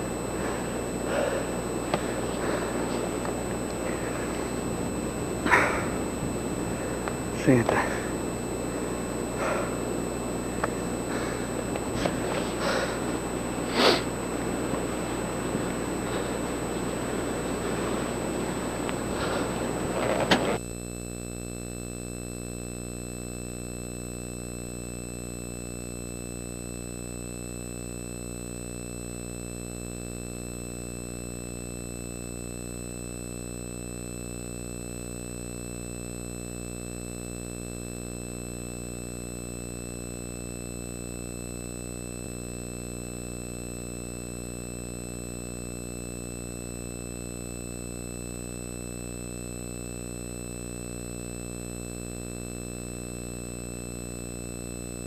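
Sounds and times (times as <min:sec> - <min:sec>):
steady hum: 0:00.0 - 0:55.0
thin high whine: 0:00.0 - 0:55.0.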